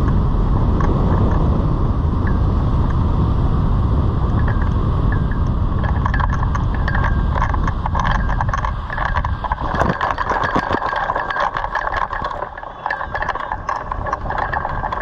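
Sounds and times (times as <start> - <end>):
hang glider clicks and rattles: 0.0 - 1.6, 4.2 - 15.0
wind rumbling on microphone: 0.0 - 15.0.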